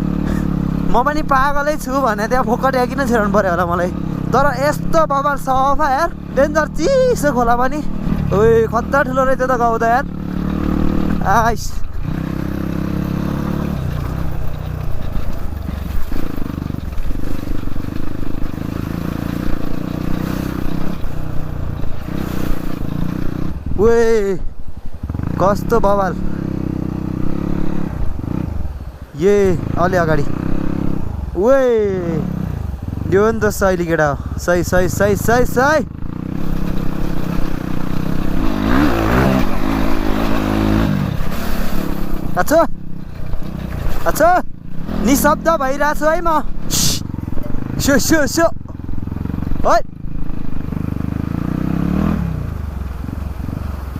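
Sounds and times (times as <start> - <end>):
dirt bike engine running: 0.0 - 53.9.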